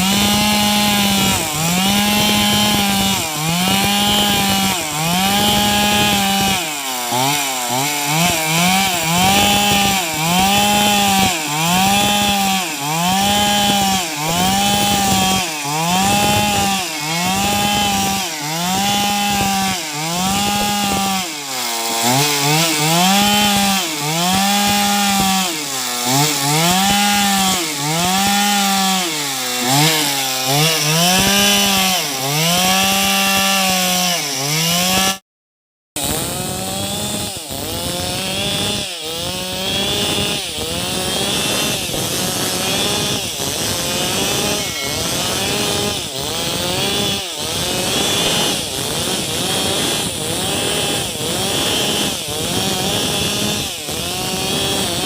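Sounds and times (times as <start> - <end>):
chainsaw cutting wood: 0.0 - 35.2, 36.0 - 55.0.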